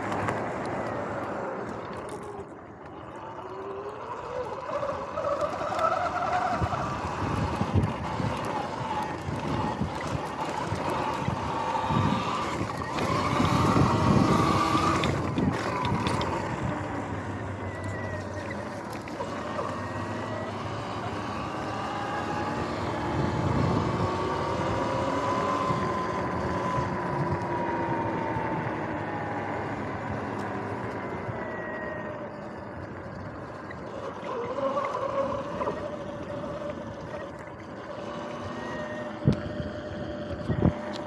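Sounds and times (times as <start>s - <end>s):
electric dirt bike motor whining: 0.0s - 41.0s.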